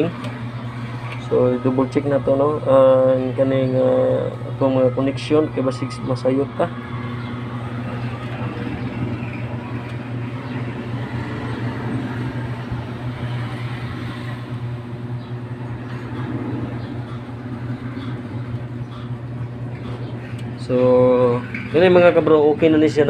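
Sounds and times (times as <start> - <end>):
amplifier low hum: 0.0 - 23.0.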